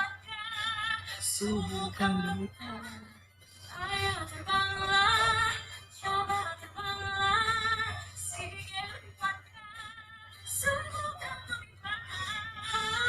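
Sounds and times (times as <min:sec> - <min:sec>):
soft backing track: 0:00.0 - 0:13.0
woman singing pop song: 0:00.0 - 0:13.0.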